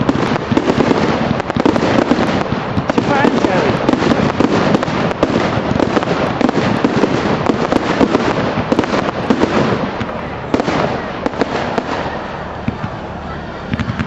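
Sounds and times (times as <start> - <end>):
fireworks cracks and bangs: 0.0 - 14.0.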